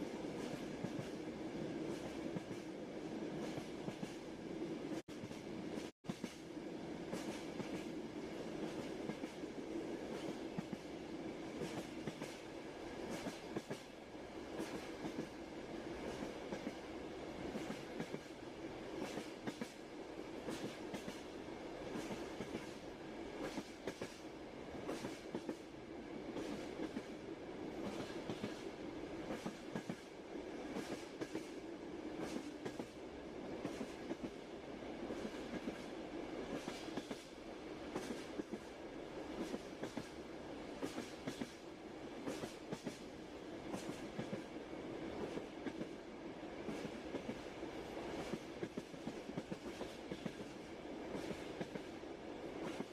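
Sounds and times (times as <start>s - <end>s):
train carriage rumbling: 0.0s - 52.9s.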